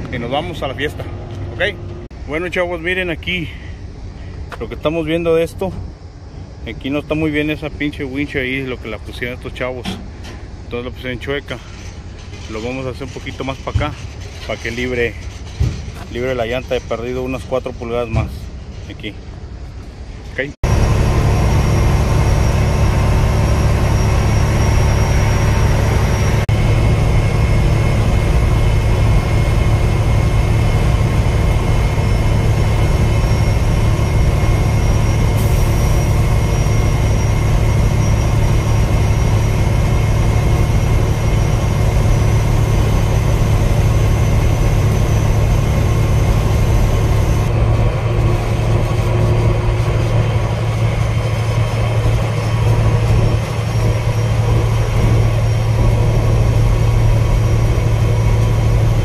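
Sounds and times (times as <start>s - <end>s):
road noise: 0.0s - 59.0s
truck diesel engine droning: 0.0s - 59.0s.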